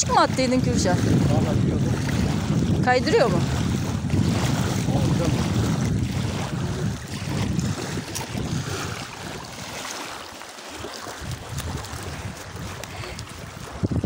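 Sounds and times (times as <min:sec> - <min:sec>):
waves lapping on pebbles: 0:00.0 - 0:14.0
wind buffeting microphone: 0:00.0 - 0:14.0.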